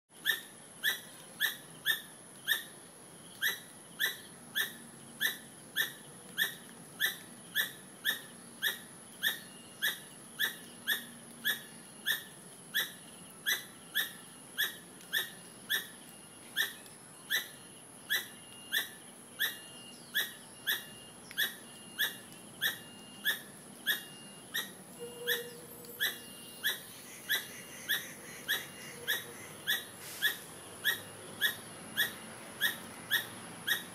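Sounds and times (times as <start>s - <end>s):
squirrel squeaky calls: 0.2s - 33.9s.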